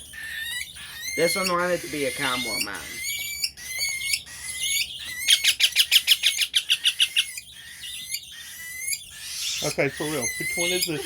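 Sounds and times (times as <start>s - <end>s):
parrot chicks begging calls: 0.0s - 11.0s.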